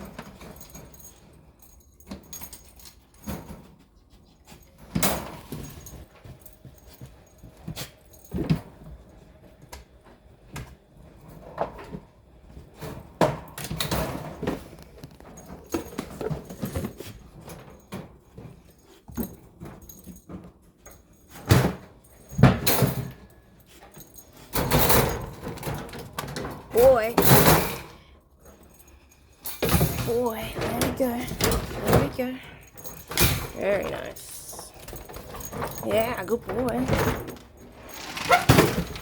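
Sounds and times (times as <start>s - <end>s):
objects clattering and jangling: 0.0s - 39.0s.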